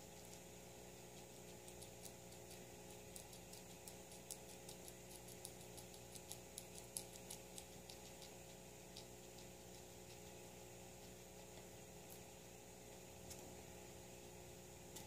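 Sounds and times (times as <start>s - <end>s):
guinea pig chewing greens: 0.0s - 15.0s.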